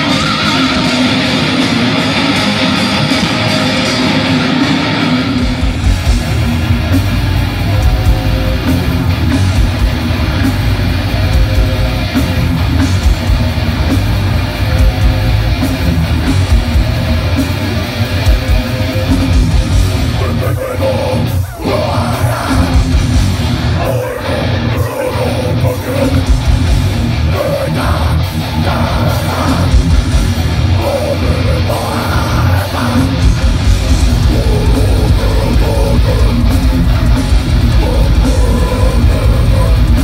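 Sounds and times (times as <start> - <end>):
distorted electric guitars: 0.0 - 40.0
drums: 0.0 - 40.0
heavy metal band playing live: 0.0 - 40.0.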